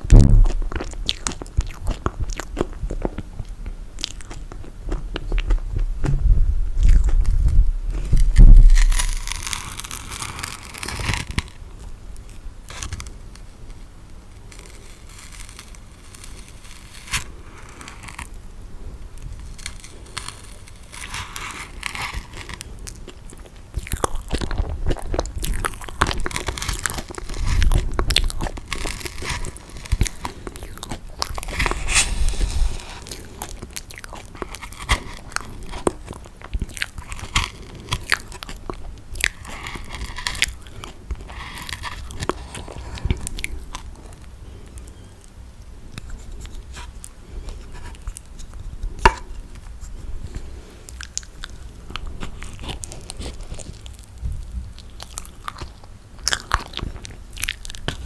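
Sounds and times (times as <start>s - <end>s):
chewing marshmallow: 0.0s - 6.2s, 6.8s - 58.0s.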